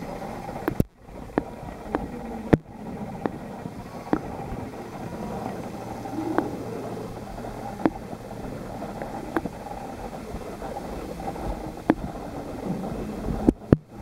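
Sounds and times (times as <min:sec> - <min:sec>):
sharp underwater clicks: 0:00.0 - 0:14.0
steady low underwater hum: 0:00.0 - 0:14.0.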